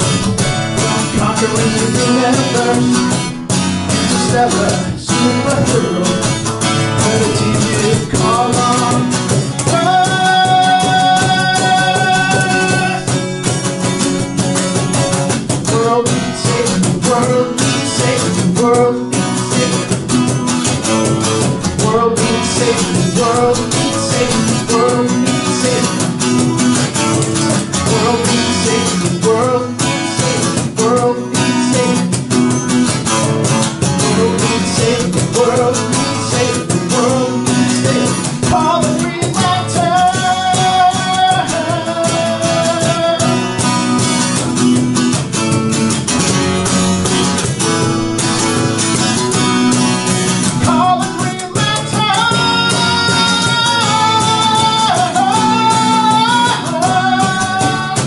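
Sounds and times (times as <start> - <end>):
acoustic guitar strumming: 0.0 - 58.0
cajon beat: 0.0 - 58.0.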